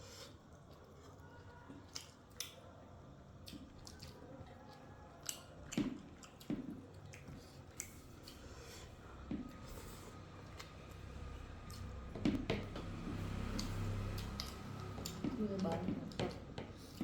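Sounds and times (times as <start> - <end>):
chewing and mouth noises: 0.6 - 12.1, 13.1 - 17.0.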